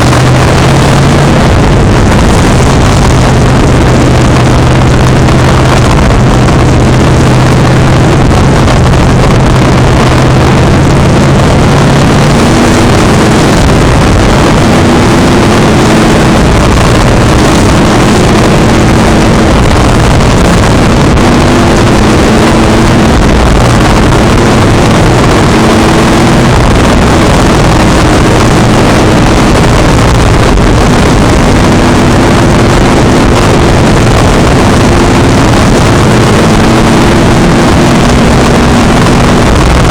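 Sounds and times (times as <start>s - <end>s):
racing truck engines: 0.0s - 39.9s.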